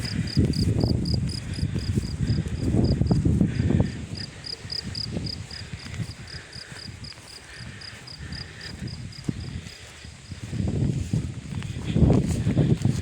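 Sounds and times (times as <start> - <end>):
cricket chirping: 0.0 - 10.7.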